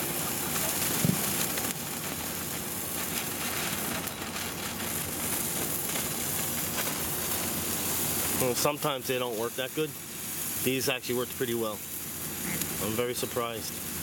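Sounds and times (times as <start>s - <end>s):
sparklers fizzing and crackling: 0.0s - 14.0s.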